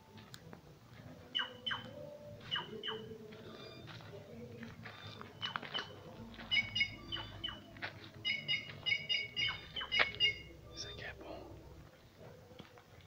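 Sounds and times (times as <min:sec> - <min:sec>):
birds chirping: 0:01.2 - 0:13.0.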